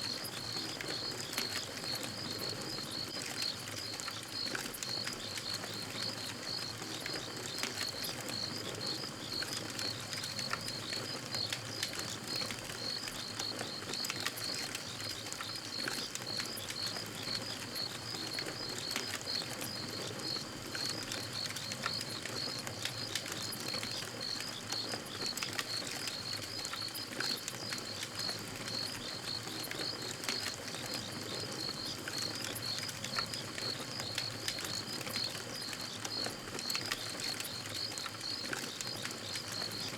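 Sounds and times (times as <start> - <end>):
night insects chirping: 0.0 - 39.9
campfire crackling: 0.2 - 39.9.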